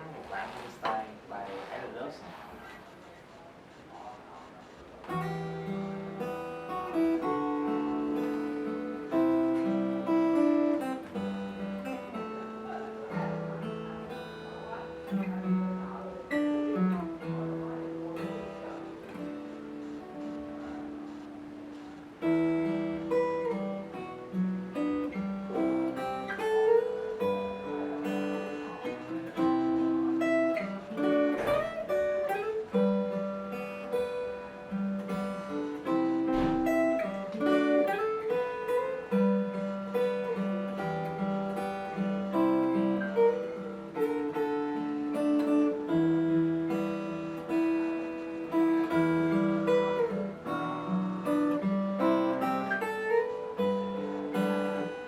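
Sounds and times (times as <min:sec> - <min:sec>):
fingerstyle acoustic guitar: 0:00.0 - 0:55.0.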